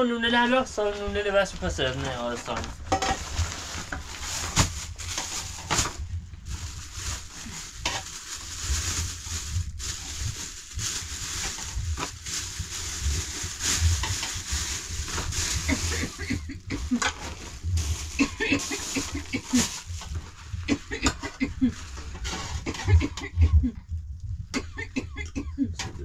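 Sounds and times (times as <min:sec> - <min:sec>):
steady low rumble: 0:00.0 - 0:26.0
plastic bag crinkling: 0:00.7 - 0:23.0.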